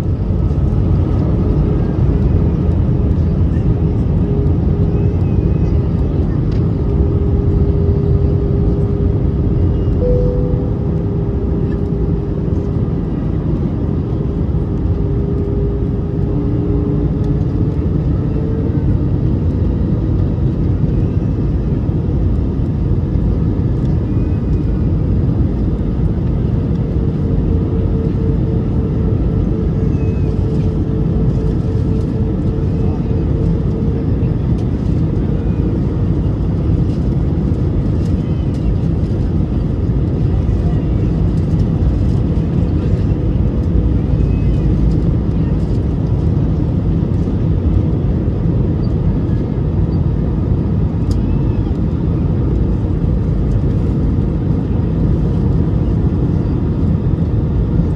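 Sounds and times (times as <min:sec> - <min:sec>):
airliner cabin rumble: 0:00.0 - 0:57.9.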